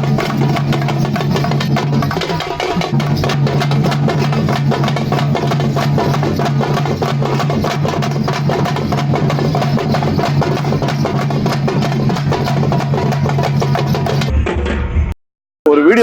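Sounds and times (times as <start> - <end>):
music with fast drumming: 0.0 - 14.3.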